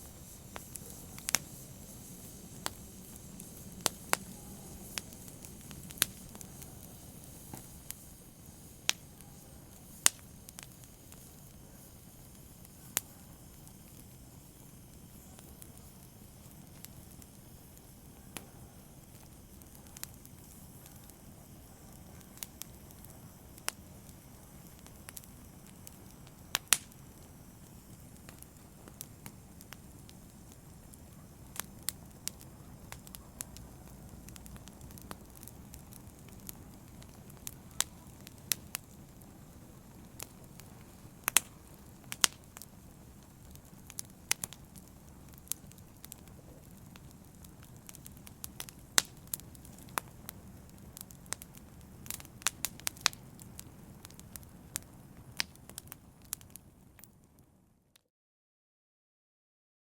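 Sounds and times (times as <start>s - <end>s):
wood fire crackling and popping: 0.0s - 57.6s.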